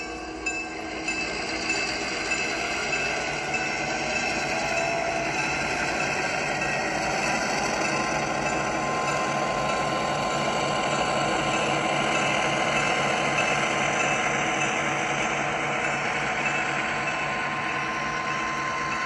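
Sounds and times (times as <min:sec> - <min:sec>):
model train motor hum: 0:00.0 - 0:19.0.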